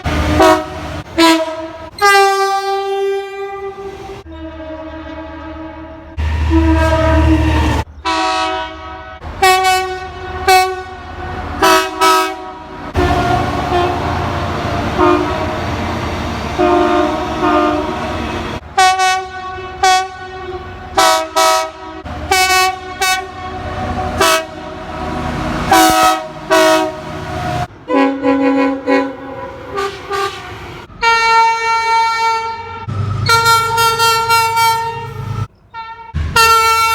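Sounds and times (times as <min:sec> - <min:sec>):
train air horn blasts: 0:00.0 - 0:15.9, 0:16.6 - 0:36.9
low rumble of passing train: 0:00.0 - 0:36.9.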